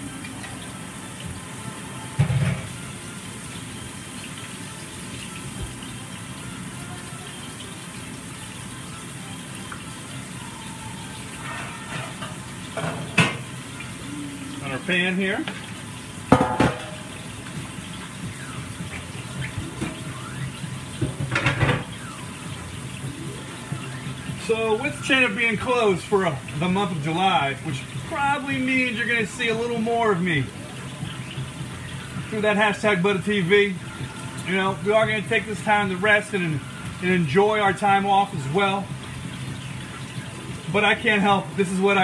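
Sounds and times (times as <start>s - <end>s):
steak sizzling in a pan: 0.0s - 42.0s.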